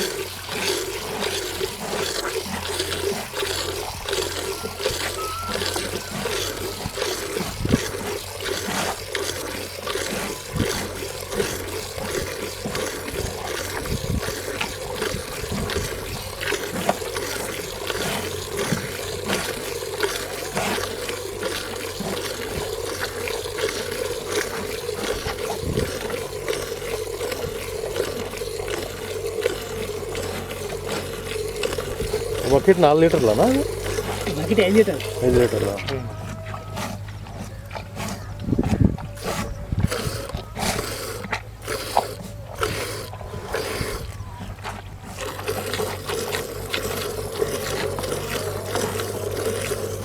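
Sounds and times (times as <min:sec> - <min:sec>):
milk squirting into a bucket: 0:00.0 - 0:50.0.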